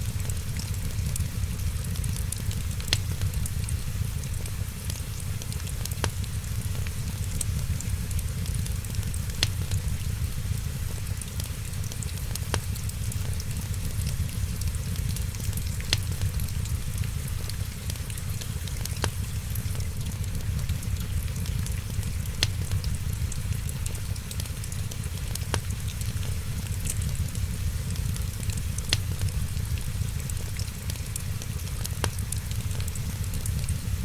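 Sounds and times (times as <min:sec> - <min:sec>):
low rumble and hiss: 0:00.0 - 0:34.0
wood fire crackling: 0:00.0 - 0:34.0.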